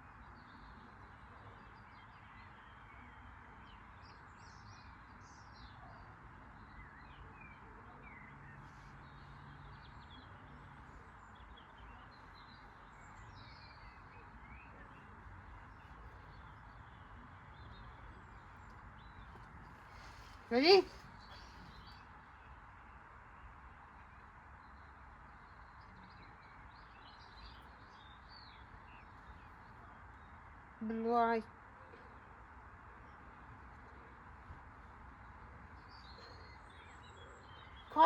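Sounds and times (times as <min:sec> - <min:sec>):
faint birds chirping: 0:00.0 - 0:38.0.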